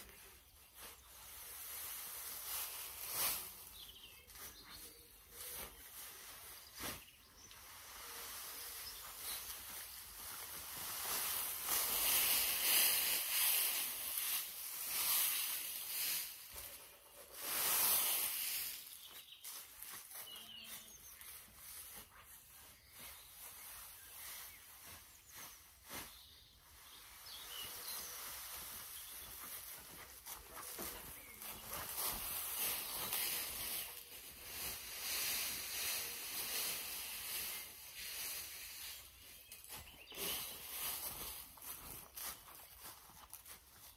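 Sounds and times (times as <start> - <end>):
straw rustling and swishing: 0.1 - 43.9.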